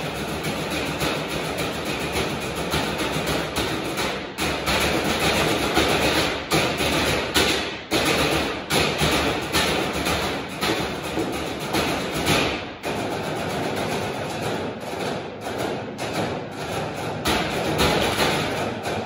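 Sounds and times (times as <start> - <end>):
drumsticks beating metal trash cans: 0.0 - 19.0.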